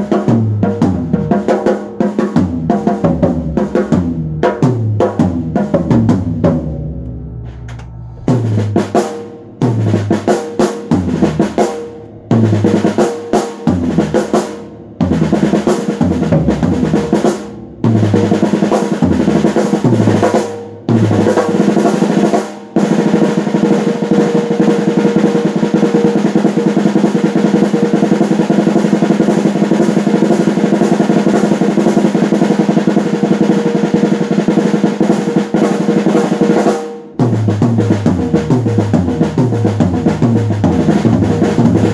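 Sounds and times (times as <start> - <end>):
drum kit fills: 0.0 - 41.9
snare drum roll: 0.0 - 41.9.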